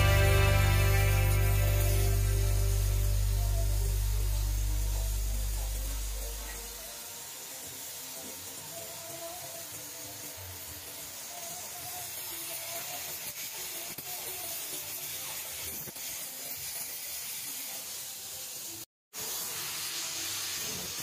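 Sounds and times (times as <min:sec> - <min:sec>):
welding torch flame hissing: 0:00.0 - 0:21.0.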